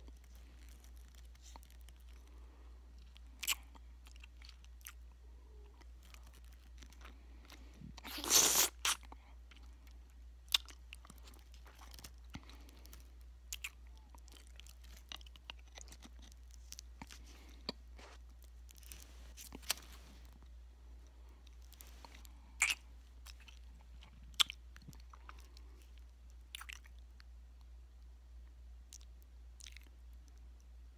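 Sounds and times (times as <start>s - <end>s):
candy crunching: 0.0s - 27.2s
person eating hard candy: 0.0s - 27.7s.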